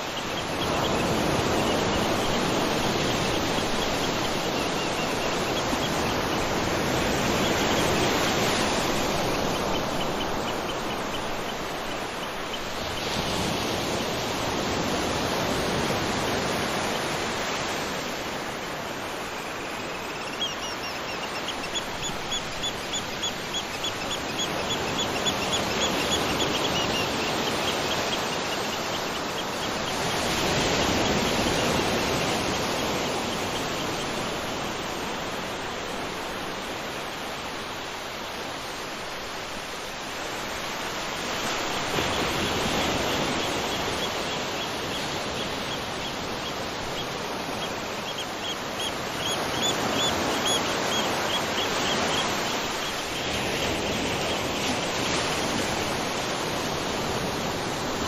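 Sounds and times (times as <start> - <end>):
surf washing in and receding: 0.0 - 58.0.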